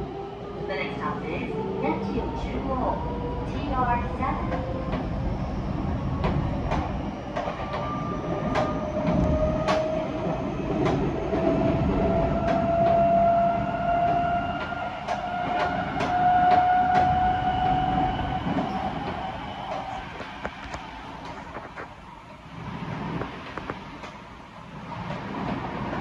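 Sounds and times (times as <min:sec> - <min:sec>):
low train rumble: 0:00.0 - 0:26.0.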